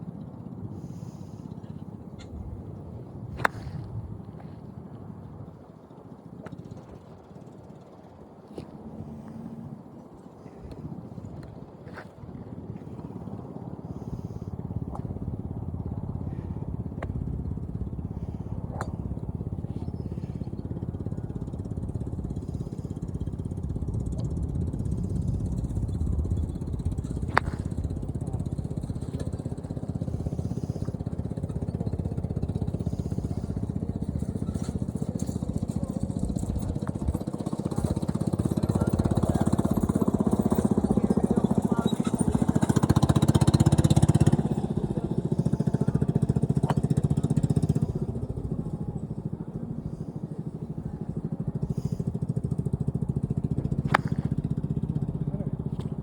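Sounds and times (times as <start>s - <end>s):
motor running with low rumble: 0.0s - 56.0s.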